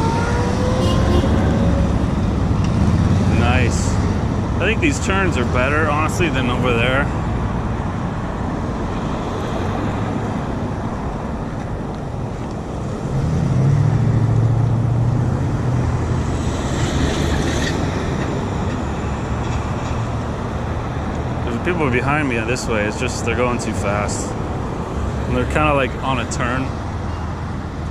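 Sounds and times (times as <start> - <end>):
cars passing by: 0.0 - 27.9
low vehicle engine drone: 0.0 - 27.9.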